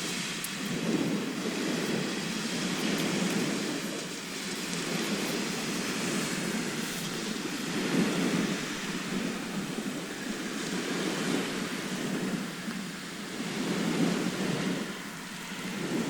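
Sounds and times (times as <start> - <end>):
sea surf washing ashore: 0.0 - 16.0.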